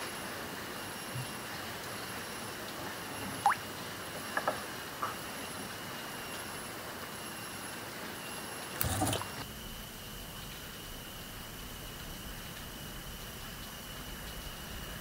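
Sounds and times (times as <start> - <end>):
high insect drones: 0.0 - 15.0.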